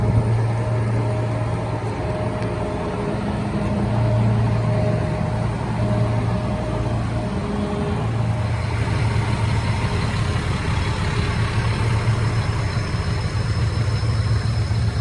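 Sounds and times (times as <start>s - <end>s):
fire engine idling: 0.0s - 15.0s.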